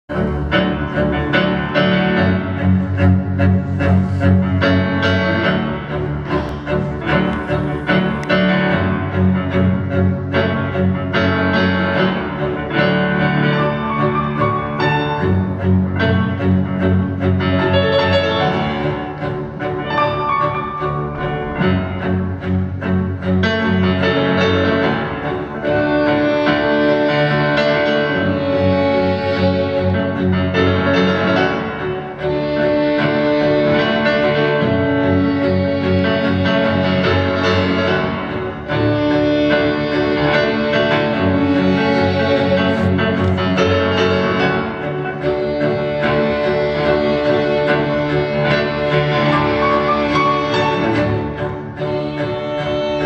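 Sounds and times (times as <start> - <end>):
cello bowed notes: 0.1 - 53.0
grand piano pattern: 0.1 - 53.0.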